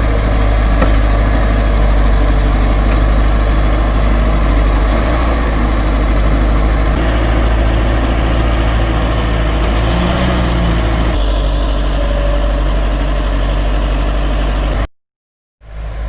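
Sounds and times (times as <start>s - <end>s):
heavy diesel engine running: 0.0s - 14.9s, 15.6s - 16.0s.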